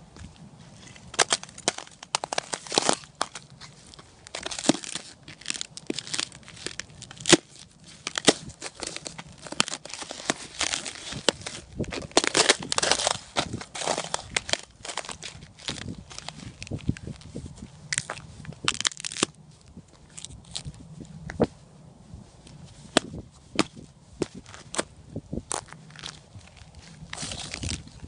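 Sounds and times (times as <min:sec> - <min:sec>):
footsteps crunching ice and snow: 0:00.0 - 0:21.5, 0:22.4 - 0:28.0.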